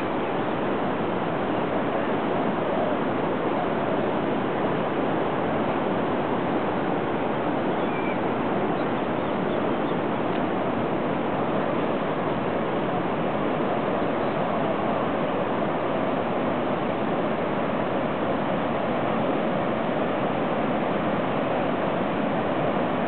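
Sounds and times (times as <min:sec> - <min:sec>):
ocean surf rushing: 0:00.0 - 0:23.0.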